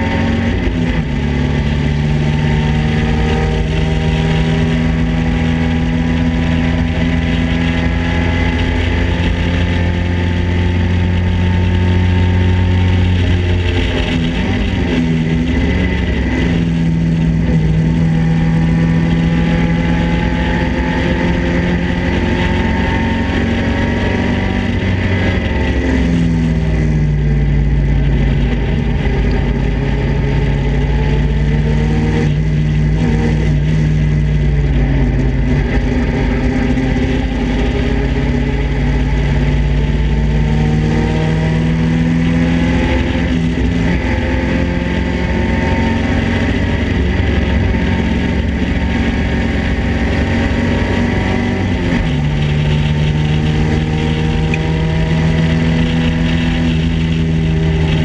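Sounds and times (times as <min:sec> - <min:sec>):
race car engine running hard: 0:00.0 - 0:58.0
wind rush: 0:00.0 - 0:58.0.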